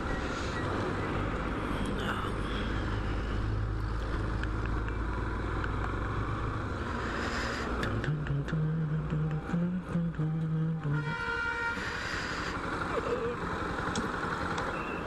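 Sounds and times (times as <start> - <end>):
motorcycle engine drone: 0.0 - 15.0
traffic: 0.0 - 15.0
wind: 0.0 - 15.0.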